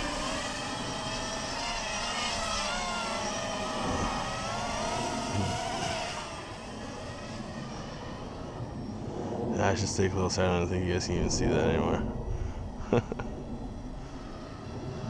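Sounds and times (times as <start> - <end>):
quadcopter propellers whining: 0.0 - 15.0.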